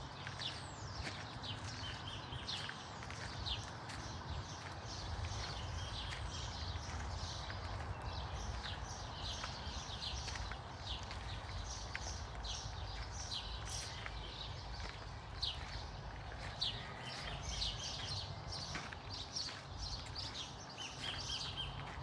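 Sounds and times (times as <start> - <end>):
birds chirping: 0.0 - 21.8.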